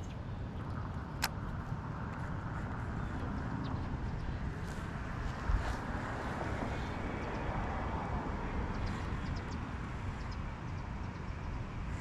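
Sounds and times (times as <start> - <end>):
steady outdoor rumble: 0.0 - 12.0
wind on microphone: 0.0 - 12.0.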